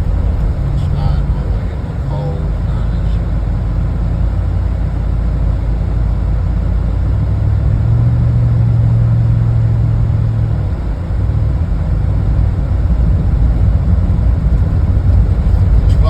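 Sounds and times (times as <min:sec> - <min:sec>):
engine and road rumble: 0:00.0 - 0:16.0
low hum: 0:00.0 - 0:16.0.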